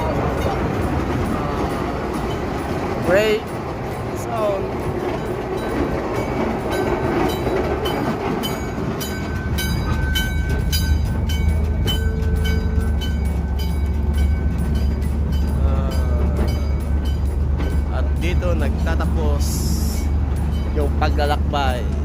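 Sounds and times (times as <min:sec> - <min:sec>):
train rumble: 0:00.0 - 0:22.0
train wheels clicking: 0:00.0 - 0:22.0.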